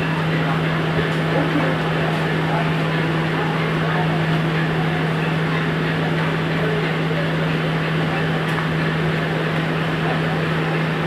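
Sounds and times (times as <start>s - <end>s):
indistinct crowd voices: 0.0s - 11.0s
ship machinery hum: 0.0s - 11.0s.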